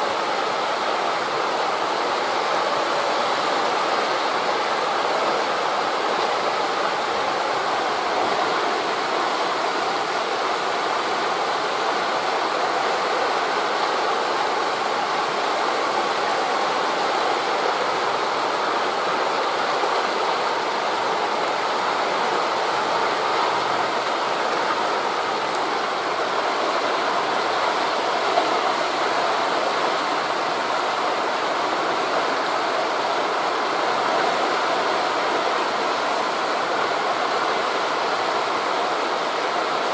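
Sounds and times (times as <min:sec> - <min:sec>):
wind through leaves: 0:00.0 - 0:39.9.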